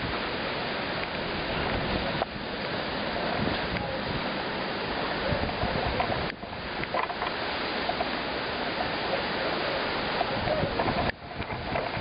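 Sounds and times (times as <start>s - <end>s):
strong gusty wind on microphone: 0.0s - 12.0s.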